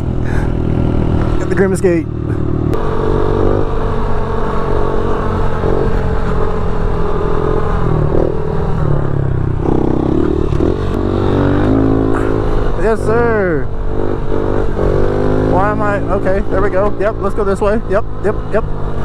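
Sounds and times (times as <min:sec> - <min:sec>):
pit bike engine running: 0:00.0 - 0:19.0.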